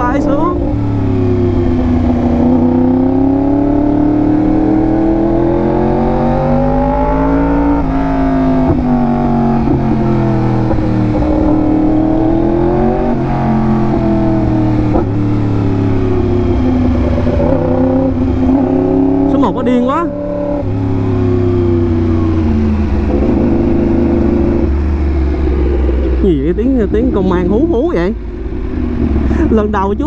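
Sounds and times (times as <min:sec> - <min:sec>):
motorcycle engine revving through gears: 0:00.0 - 0:30.0.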